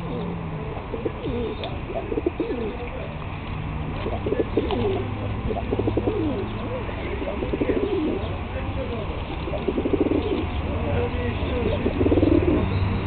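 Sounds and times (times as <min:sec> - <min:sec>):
pigeons cooing: 0:00.0 - 0:03.1, 0:03.9 - 0:12.9.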